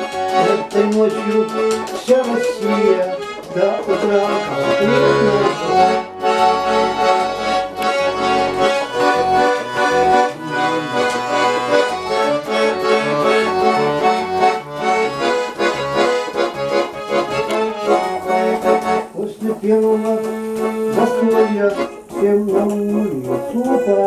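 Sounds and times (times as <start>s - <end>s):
accordion playing folk melody: 0.0s - 24.0s.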